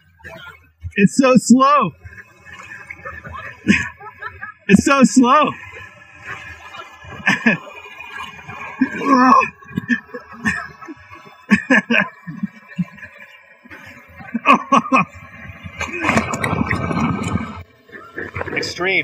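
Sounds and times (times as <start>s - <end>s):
water splashing: 0.3s - 19.0s.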